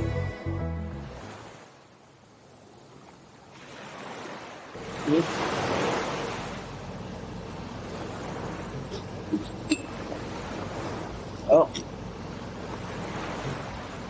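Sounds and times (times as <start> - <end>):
waves washing: 1.0 - 14.0.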